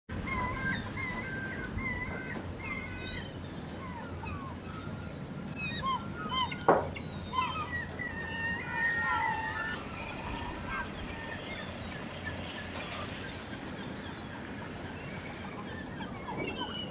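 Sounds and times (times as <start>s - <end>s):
gulls calling: 0.1s - 16.9s.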